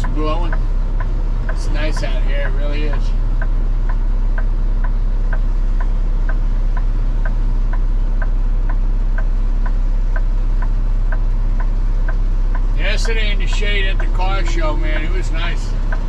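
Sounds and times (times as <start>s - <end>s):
truck engine drone: 0.0s - 16.0s
turn signal ticking: 0.0s - 16.0s.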